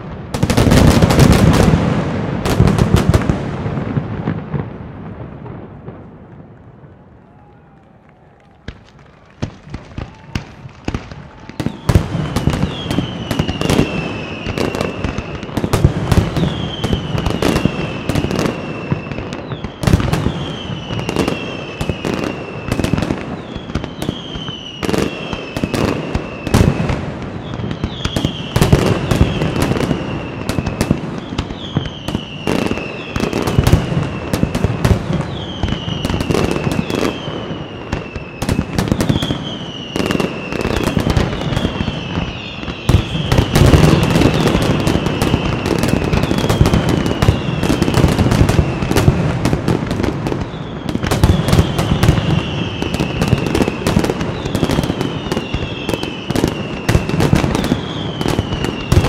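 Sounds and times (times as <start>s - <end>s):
fireworks bangs: 0.0s - 59.0s
falling firework whistles: 8.0s - 49.2s, 49.8s - 59.0s.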